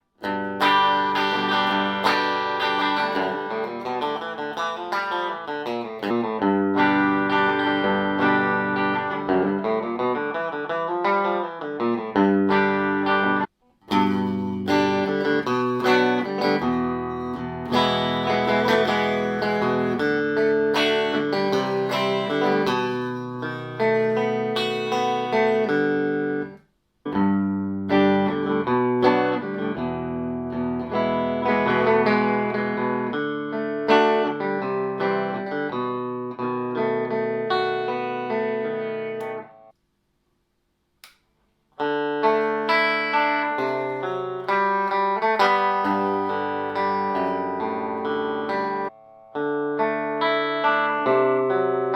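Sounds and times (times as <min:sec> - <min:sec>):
clean electric guitar strumming: 0:00.2 - 0:39.7, 0:41.8 - 0:51.9.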